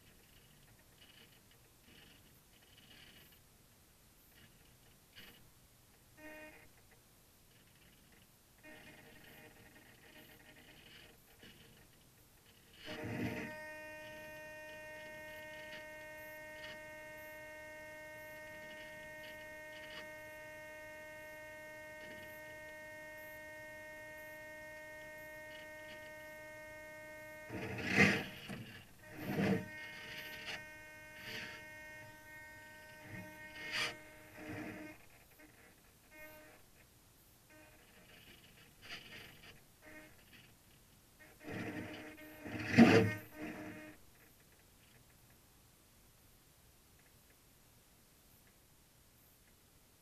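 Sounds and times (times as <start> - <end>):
steady electrical hum: 0.0 - 50.0.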